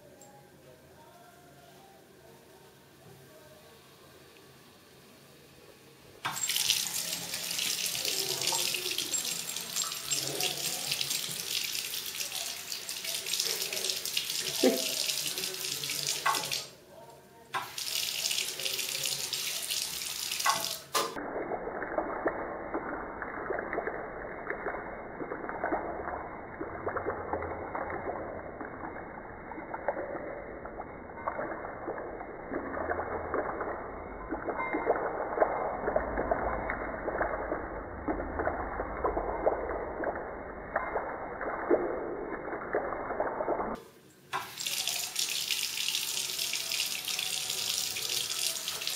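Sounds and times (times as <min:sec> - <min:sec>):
tap water running into basin: 0:06.2 - 0:16.8, 0:17.5 - 0:48.9.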